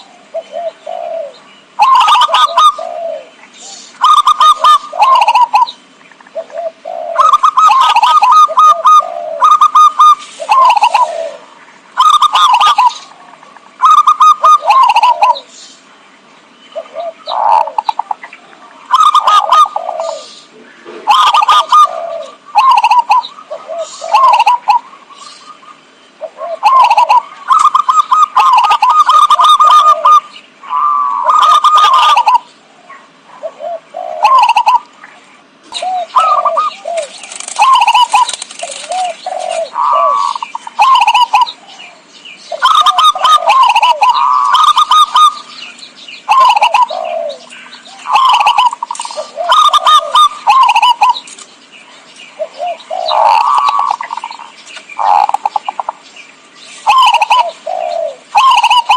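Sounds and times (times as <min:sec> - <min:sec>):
doves cooing: 0:00.0 - 0:58.9.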